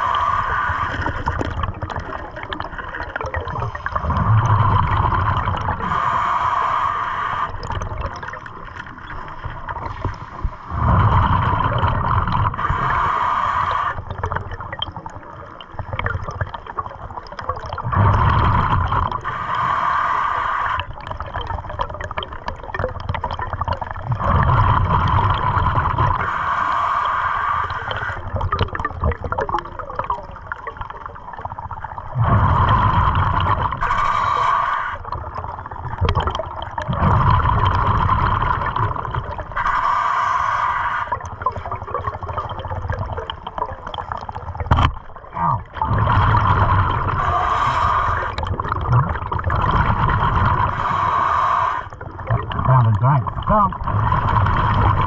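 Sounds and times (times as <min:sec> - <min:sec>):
diver exhaling bubbles underwater: 0:00.0 - 0:55.0.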